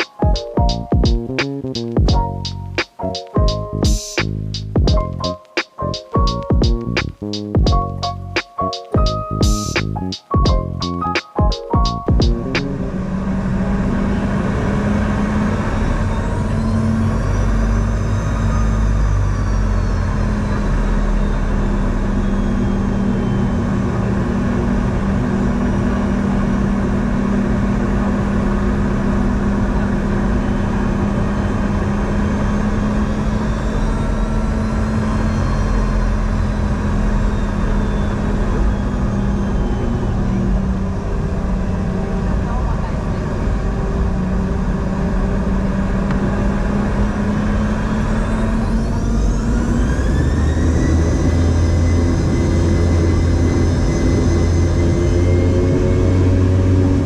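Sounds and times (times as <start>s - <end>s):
high engine whine: 0.0s - 57.0s
jet engine drone in cabin: 6.0s - 57.0s.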